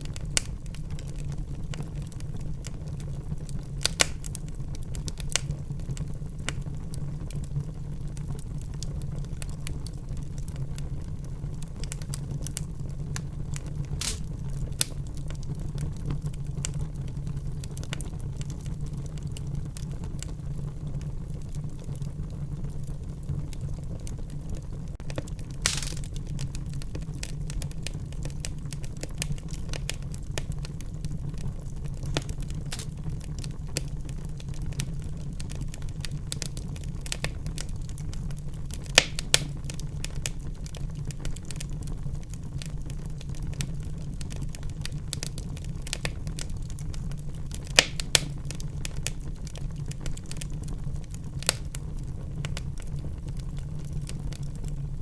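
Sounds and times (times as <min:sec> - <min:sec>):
loud fire pops: 0:00.0 - 0:16.9, 0:24.3 - 0:54.9
fire crackling in fireplace: 0:00.0 - 0:55.0.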